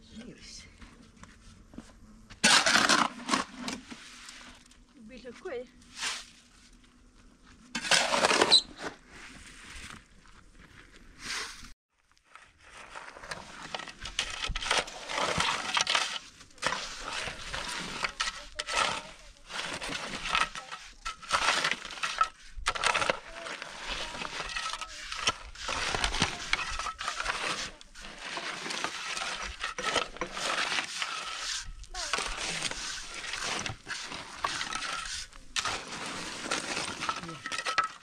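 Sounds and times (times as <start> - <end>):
shovel scraping into stony soil: 2.3 - 10.4, 11.1 - 38.0.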